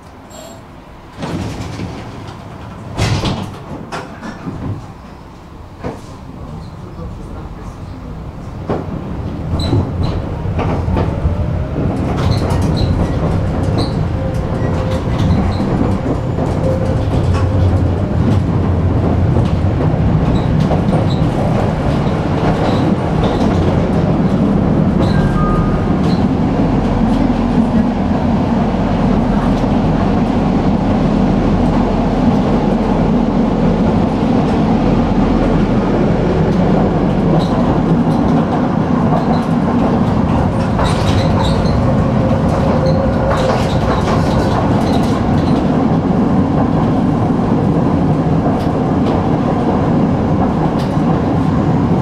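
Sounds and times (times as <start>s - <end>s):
tram wheels rumbling on rails: 0.0s - 52.0s.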